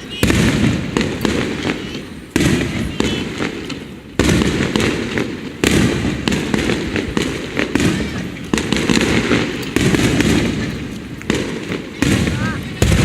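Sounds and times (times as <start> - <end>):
firework shells booming: 0.0 - 13.0
fireworks crackling: 0.0 - 13.0.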